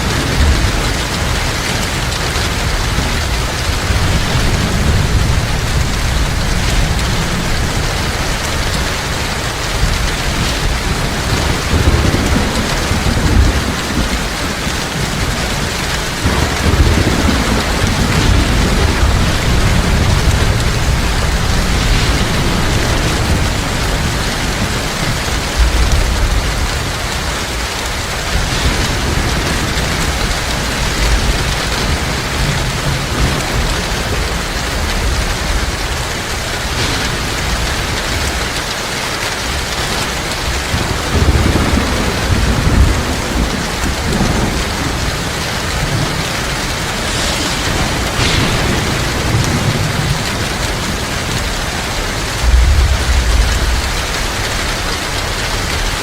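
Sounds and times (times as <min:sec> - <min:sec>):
heavy rain pouring: 0:00.0 - 0:56.0
low rolling thunder: 0:00.0 - 0:56.0.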